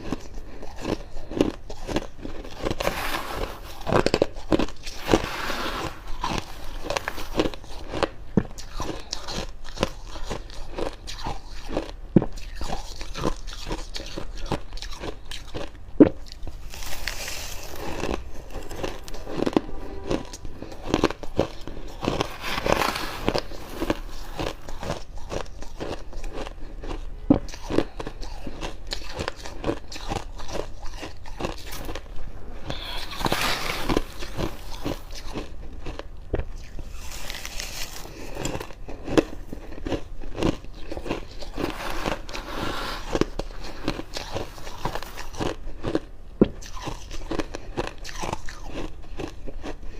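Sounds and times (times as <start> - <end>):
chewing crunchy frost: 0.0 - 49.9.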